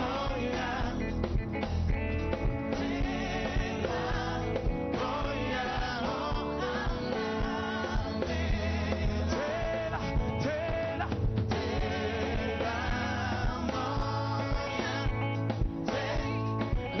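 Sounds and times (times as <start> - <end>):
person singing: 0.0 - 1.2, 2.8 - 17.0
band with guitar and beat: 0.0 - 17.0.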